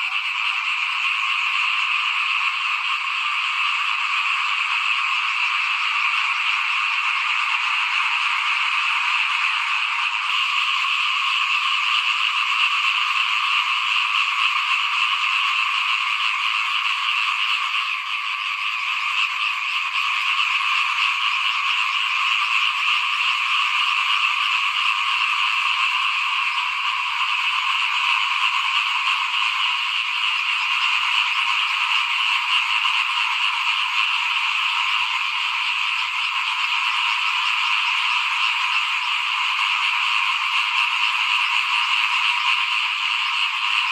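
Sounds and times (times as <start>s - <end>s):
chorus of frogs calling: 0.0s - 43.9s.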